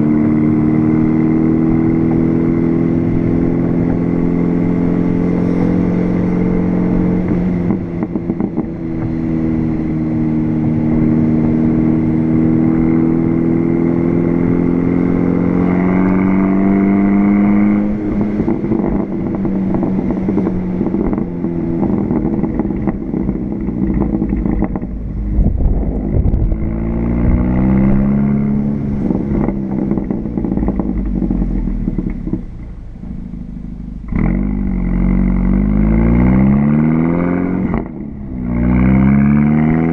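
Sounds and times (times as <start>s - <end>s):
turbocharged car engine under load: 0.0s - 39.9s.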